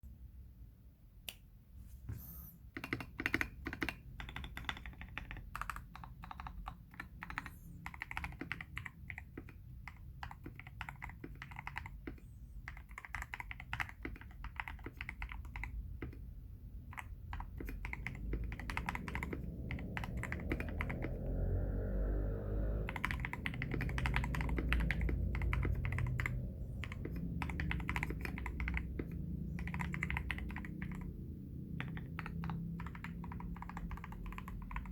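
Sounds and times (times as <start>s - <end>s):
mechanical keyboard typing: 2.7s - 21.3s, 22.9s - 34.9s.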